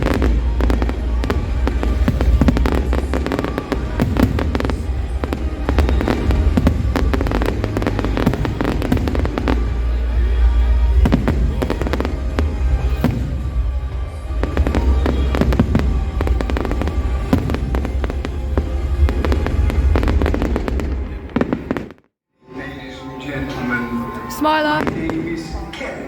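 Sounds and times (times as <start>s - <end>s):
booming show music: 0.0s - 21.8s
fireworks bangs and crackles: 0.0s - 22.1s, 24.3s - 26.0s.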